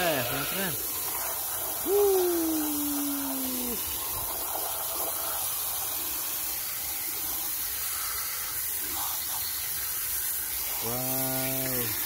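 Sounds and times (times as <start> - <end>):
water spraying from a nozzle: 0.0 - 12.0.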